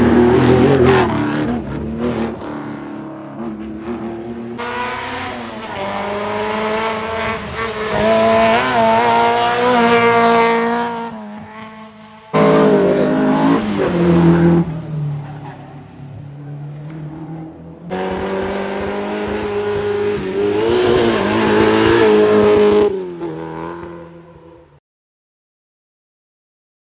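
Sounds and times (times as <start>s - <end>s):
rally car engines revving: 0.0s - 24.8s.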